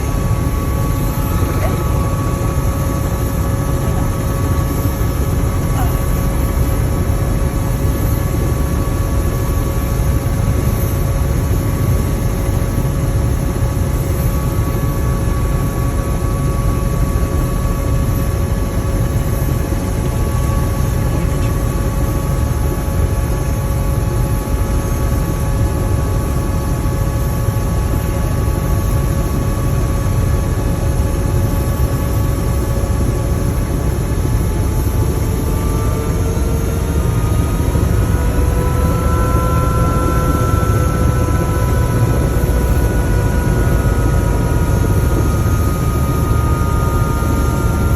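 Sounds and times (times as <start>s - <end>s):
helicopter engine whine: 0.0s - 47.9s
helicopter rotor rumble: 0.0s - 47.9s.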